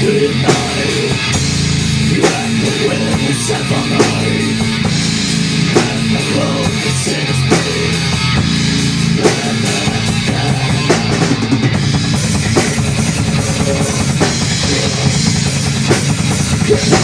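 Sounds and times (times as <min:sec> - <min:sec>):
drum kit pounding: 0:00.0 - 0:17.0
rock band playing: 0:00.0 - 0:17.0.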